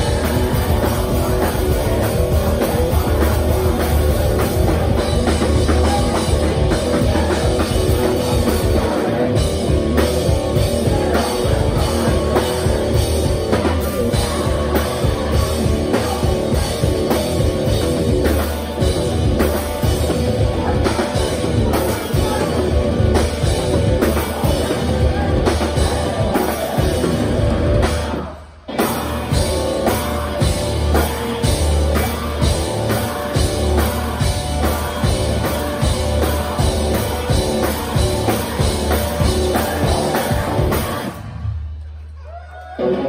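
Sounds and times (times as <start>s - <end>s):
live rock band playing: 0.0s - 42.1s.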